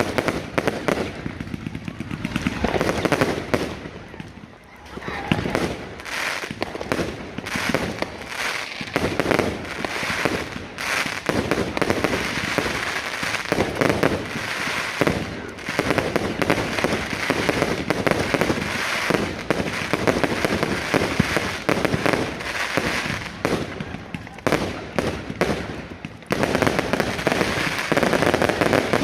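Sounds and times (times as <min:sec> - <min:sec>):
fireworks bangs: 0:00.0 - 0:29.0
fireworks crackling and popping: 0:00.0 - 0:29.0.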